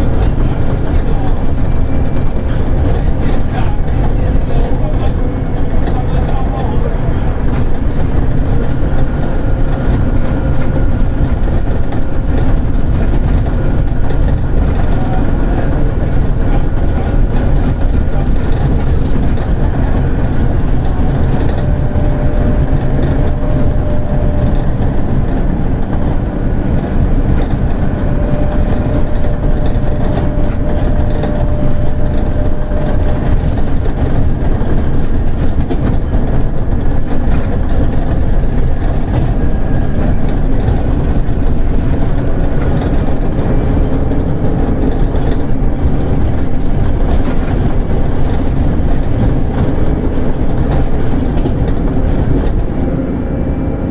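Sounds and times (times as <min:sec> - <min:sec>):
bus engine deep drone: 0:00.0 - 0:53.9.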